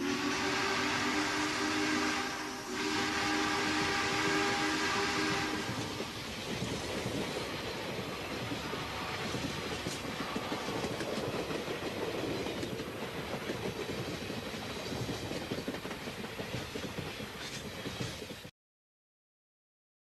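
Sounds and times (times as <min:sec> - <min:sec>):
train running along track: 0:00.0 - 0:18.5.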